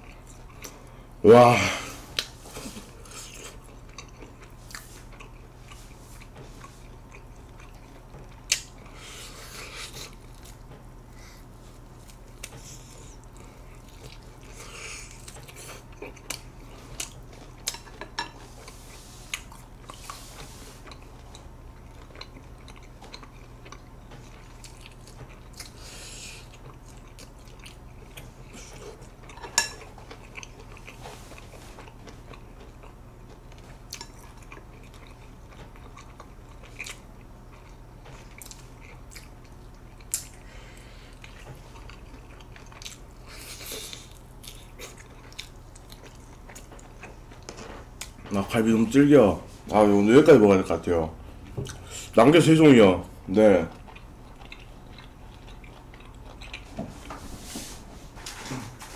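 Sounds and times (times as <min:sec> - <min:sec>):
steady low hum: 0:00.0 - 0:58.9
chewing and gnawing meat: 0:02.1 - 0:48.5, 0:52.8 - 0:57.2.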